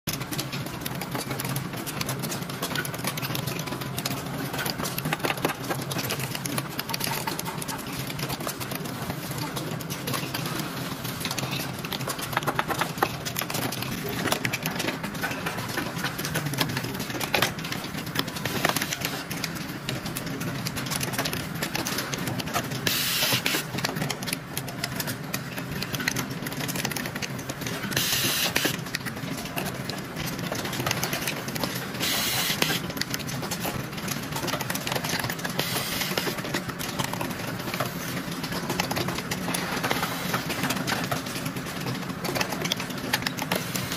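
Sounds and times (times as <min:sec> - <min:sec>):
machinery clicking and clattering: 0:00.1 - 0:43.9.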